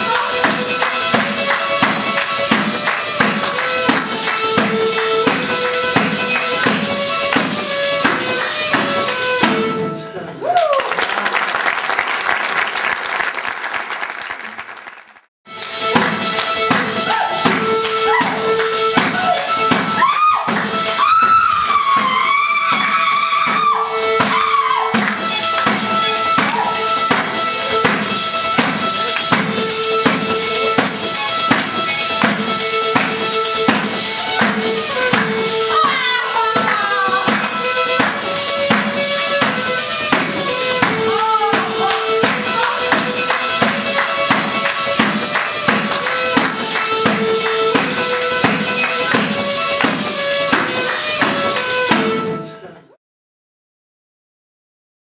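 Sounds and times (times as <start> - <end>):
frame drum beating fast rhythm: 0.0 - 10.0, 15.5 - 52.3.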